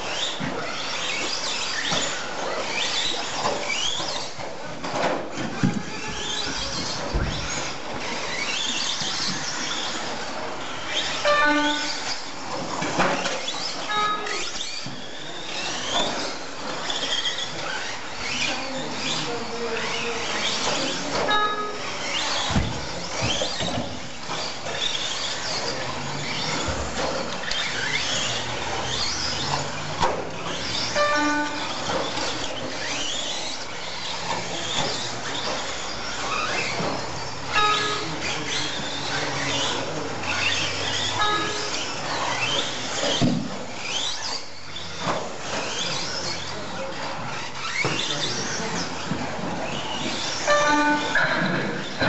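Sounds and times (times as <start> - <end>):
rc truck motors whining: 0.0 - 52.0.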